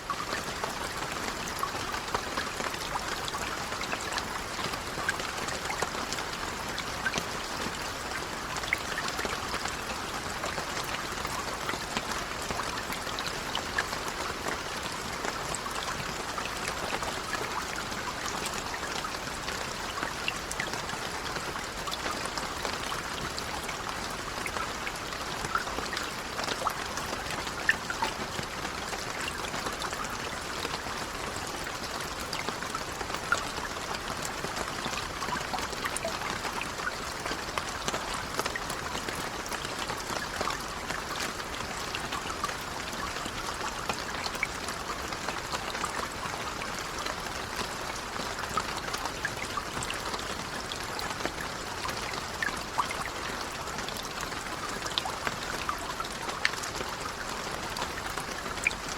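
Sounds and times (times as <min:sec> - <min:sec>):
gentle rain pattering: 0:00.0 - 0:58.9.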